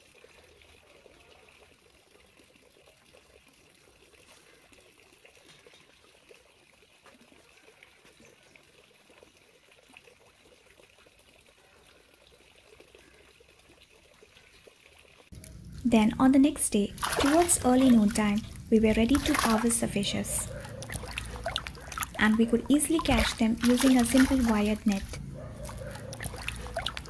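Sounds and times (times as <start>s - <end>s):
faint trickling water: 0.0s - 27.0s.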